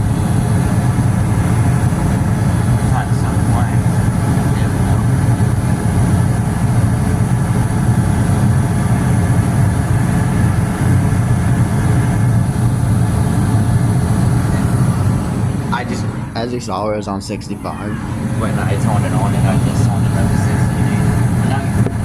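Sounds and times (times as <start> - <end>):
gas furnace droning: 0.0 - 22.0.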